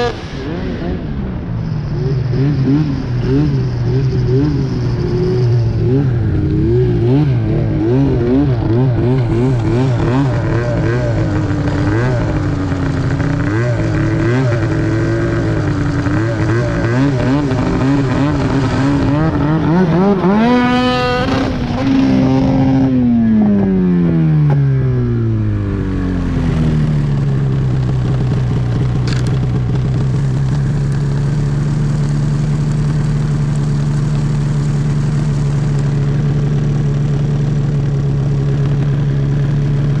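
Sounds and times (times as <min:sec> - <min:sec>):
snowmobile engine revving: 0:01.9 - 0:37.2.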